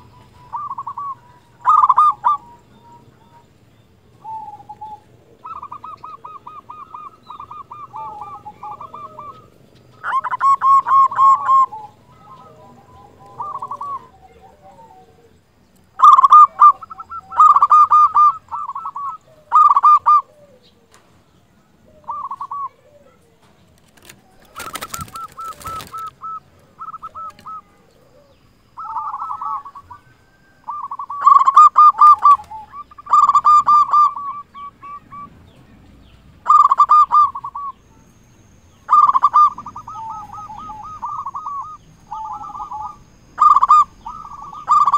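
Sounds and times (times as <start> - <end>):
dove cooing: 0.0 - 37.9, 38.7 - 44.9.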